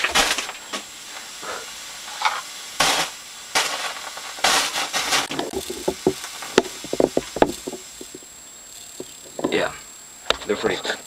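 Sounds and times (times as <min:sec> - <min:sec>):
strobe firework bursts: 0:00.0 - 0:10.3.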